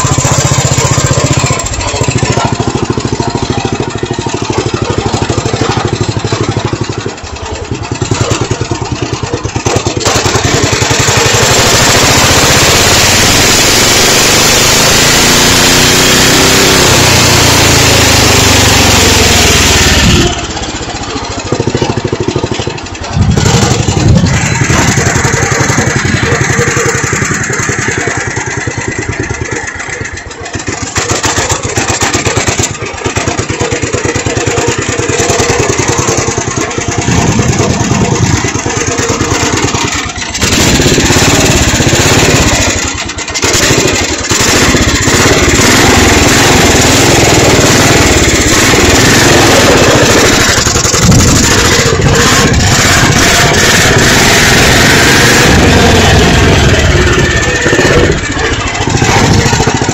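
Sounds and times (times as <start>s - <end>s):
small tractor engine running: 0.0s - 59.9s.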